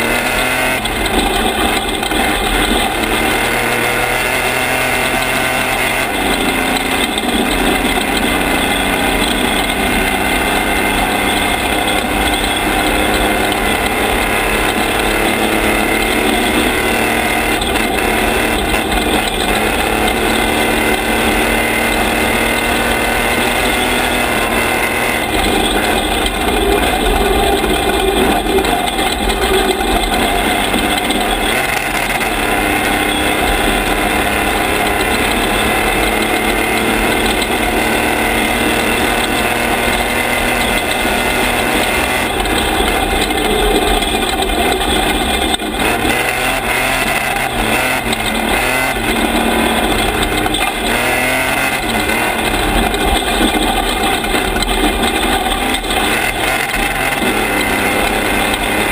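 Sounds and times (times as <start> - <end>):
truck engine droning: 0.0 - 58.9
tyres on gravel: 0.0 - 58.9.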